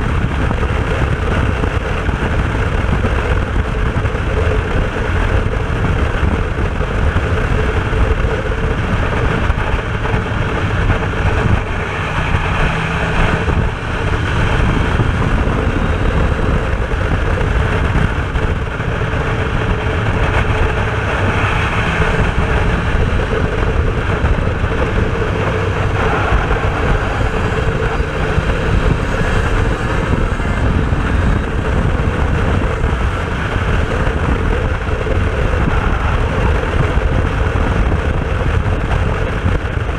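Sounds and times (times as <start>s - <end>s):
two-stroke motorcycle engine running: 0.0s - 39.9s
wind buffeting microphone: 0.0s - 39.9s.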